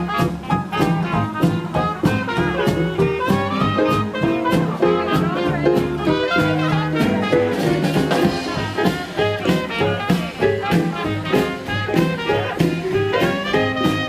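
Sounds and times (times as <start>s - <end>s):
drums: 0.0s - 14.0s
jazz band playing: 0.0s - 14.0s
trombone: 0.0s - 14.0s
trumpet: 0.0s - 14.0s
walking bass: 0.0s - 14.0s.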